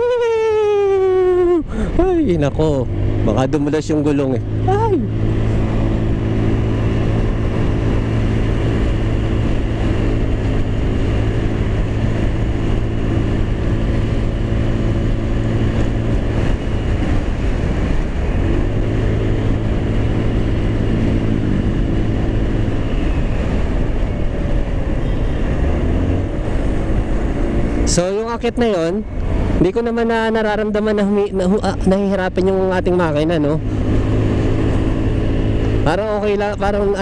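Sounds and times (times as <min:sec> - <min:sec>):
scooter engine climbing uphill: 0:00.0 - 0:37.0.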